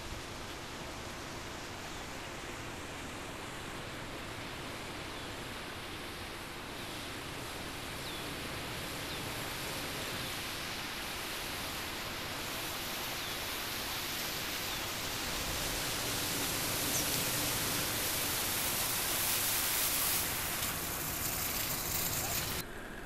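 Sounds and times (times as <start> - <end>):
tyres spraying through floodwater: 0.0 - 23.0.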